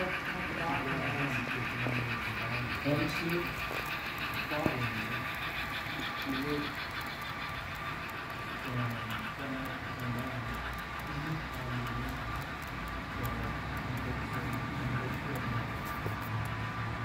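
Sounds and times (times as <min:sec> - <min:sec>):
faint ticking: 0:00.0 - 0:17.0
model steam locomotive chuffs: 0:00.0 - 0:17.0
steady hum: 0:00.0 - 0:17.0.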